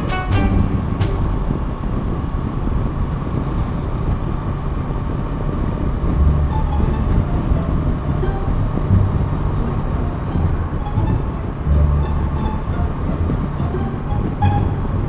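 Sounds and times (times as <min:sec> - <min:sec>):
motorcycle engine drone: 0:00.0 - 0:15.0
wind rush: 0:00.0 - 0:15.0.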